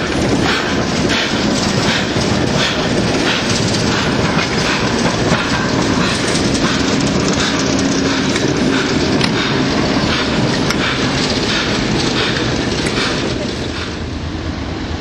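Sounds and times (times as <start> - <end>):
diesel engine running: 0.0 - 13.9
rumble of rolling wheels: 0.0 - 14.4
wheels and coupling rods clanking: 0.1 - 13.9.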